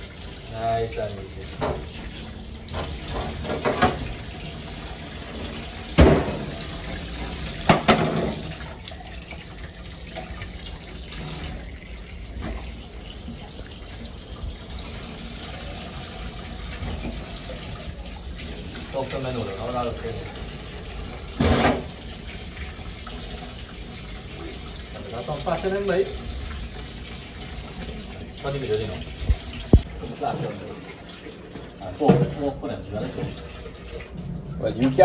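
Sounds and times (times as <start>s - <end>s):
tap water running into a sink: 0.0s - 35.0s.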